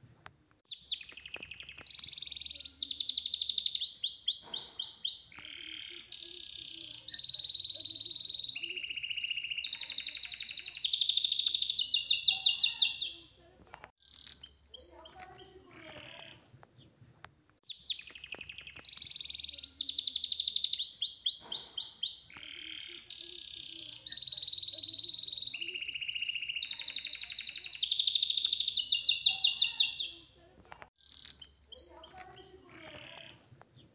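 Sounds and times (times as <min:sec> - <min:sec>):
songbird singing: 0:00.5 - 0:17.0, 0:17.6 - 0:30.4, 0:31.0 - 0:33.9.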